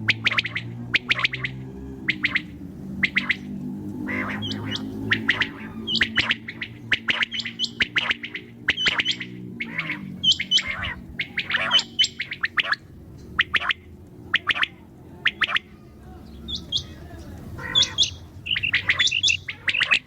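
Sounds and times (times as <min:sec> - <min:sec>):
low steady hum: 0:00.0 - 0:20.0
quail calling: 0:00.0 - 0:20.0.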